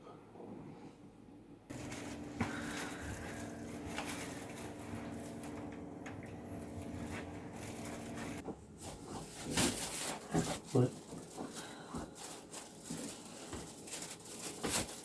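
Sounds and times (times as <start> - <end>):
steady low hum: 0.0 - 14.2
rustles: 1.7 - 5.7, 6.4 - 15.0.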